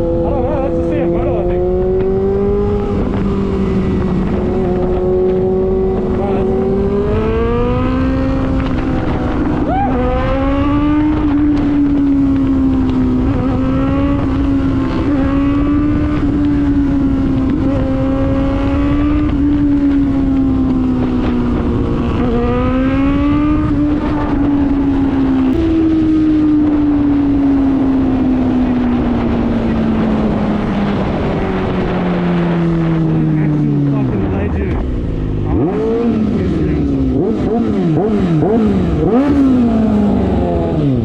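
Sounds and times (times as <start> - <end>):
motorcycle engine revving: 0.0 - 41.0
wind and road noise: 0.0 - 41.0.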